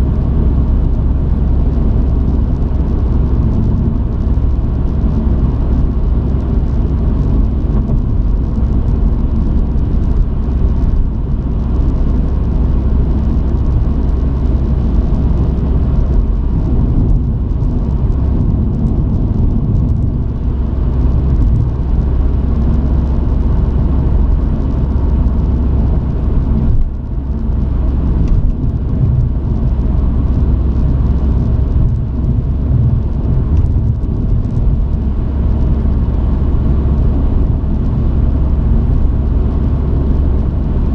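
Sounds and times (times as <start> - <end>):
truck engine rumble: 0.0 - 40.9.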